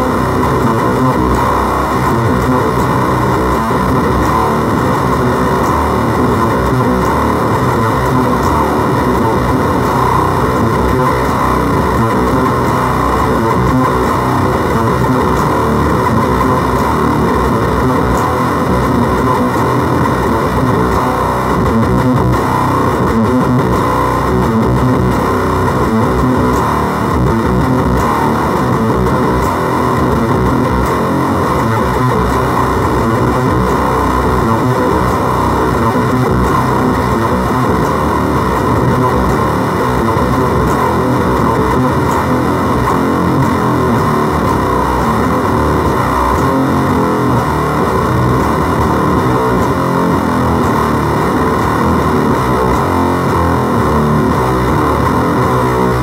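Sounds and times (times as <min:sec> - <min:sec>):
fuzz-distorted electric guitar: 0:00.0 - 0:56.0.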